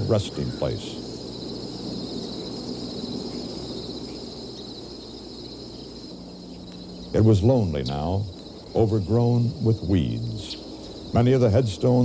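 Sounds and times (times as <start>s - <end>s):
insects chirring: 0.0s - 12.0s
low outdoor rumble and hum: 0.0s - 12.0s.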